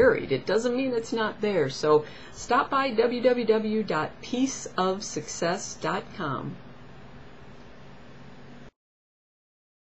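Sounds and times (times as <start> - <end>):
background hiss: 0.0 - 8.7
faint low hum: 0.0 - 8.8.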